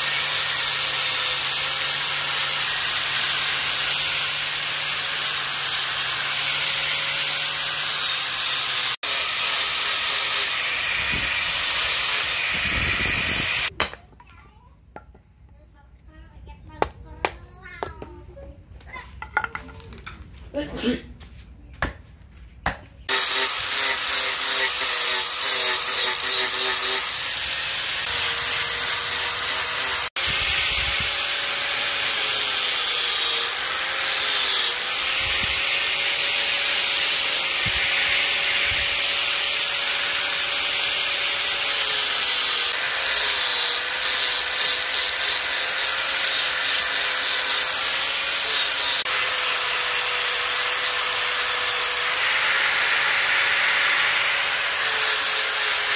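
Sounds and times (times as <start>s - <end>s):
angle grinder sanding wood: 0.0s - 13.7s, 23.1s - 55.9s.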